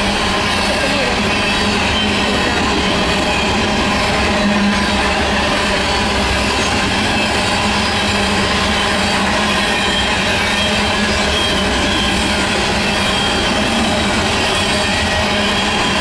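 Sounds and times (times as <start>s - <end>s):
freight train cars rolling past: 0.0s - 16.0s.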